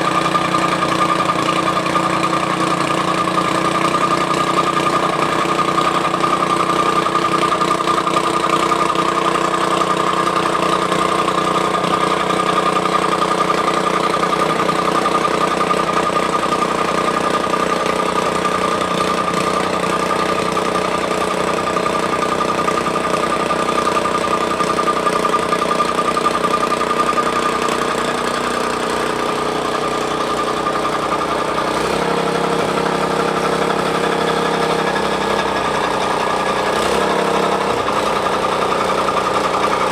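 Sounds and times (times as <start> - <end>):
tamping rammer engine running: 0.0 - 39.9.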